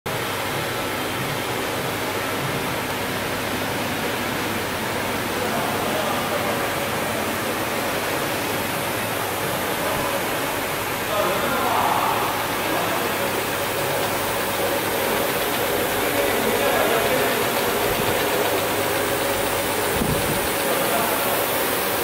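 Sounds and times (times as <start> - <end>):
packing line machinery running: 0.1 - 22.0.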